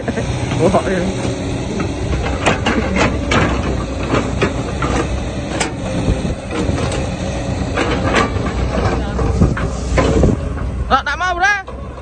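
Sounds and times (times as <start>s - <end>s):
heavy machine engine running: 0.0s - 12.0s
knocks and clanks: 0.4s - 10.9s.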